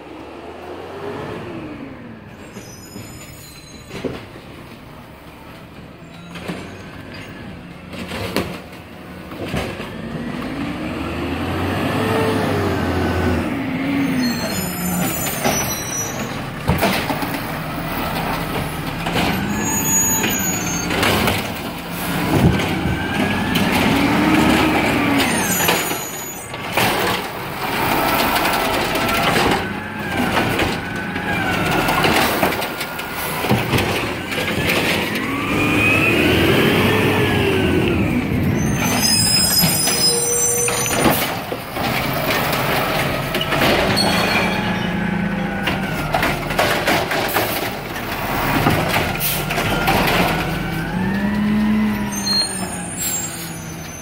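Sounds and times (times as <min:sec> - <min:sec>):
garbage truck engine revving: 0:06.4 - 0:54.0.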